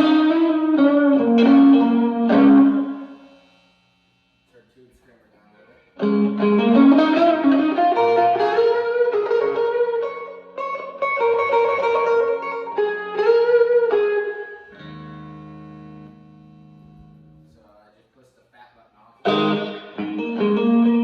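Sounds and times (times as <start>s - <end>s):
electric guitar playing: 0.0s - 4.5s, 5.6s - 17.6s, 19.2s - 21.0s.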